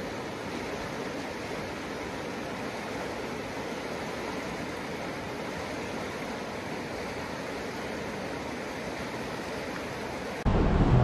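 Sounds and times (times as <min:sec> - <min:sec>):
river rushing water: 0:00.0 - 0:11.0.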